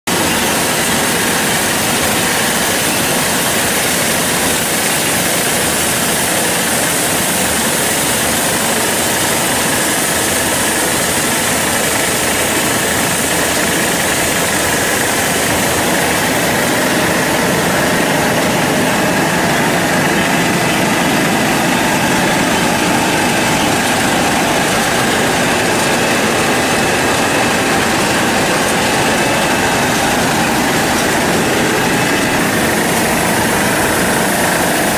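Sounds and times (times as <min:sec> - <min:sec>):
washing machine running: 0:00.1 - 0:34.9.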